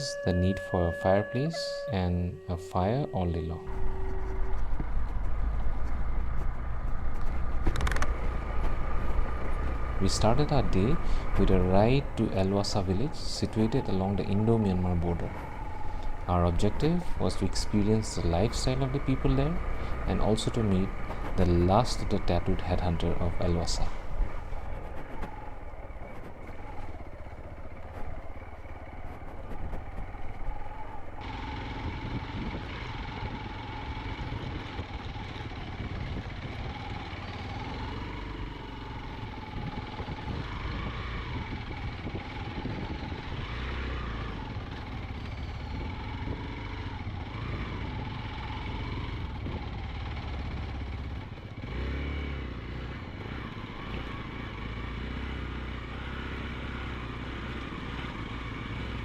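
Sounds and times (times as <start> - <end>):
motorcycle engine running: 3.6 - 59.0.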